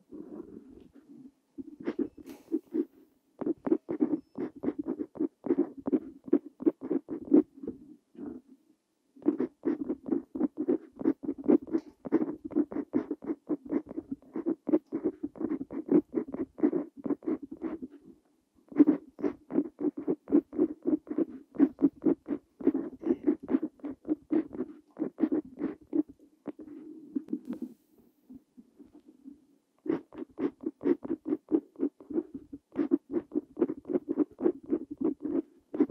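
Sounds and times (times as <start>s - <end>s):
pen nib scratching on paper: 1.6s - 7.5s, 9.2s - 18.0s, 18.7s - 27.8s, 29.8s - 35.9s.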